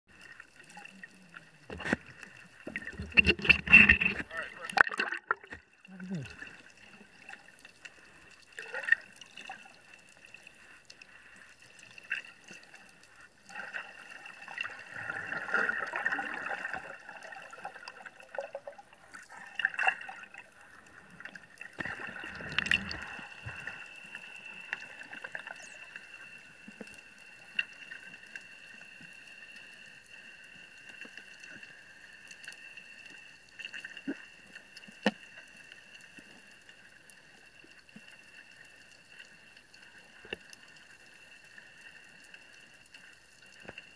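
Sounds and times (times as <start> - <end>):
underwater rushing and bubbles: 0.1 - 43.9.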